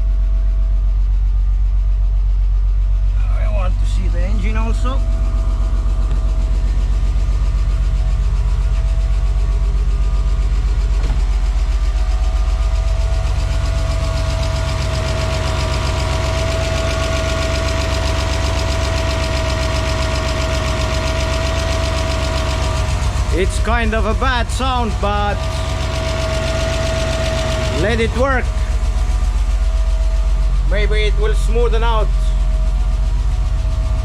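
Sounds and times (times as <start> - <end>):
car engine idling: 0.0 - 34.0
engine clatter: 0.0 - 34.0
engine whine: 0.0 - 34.0.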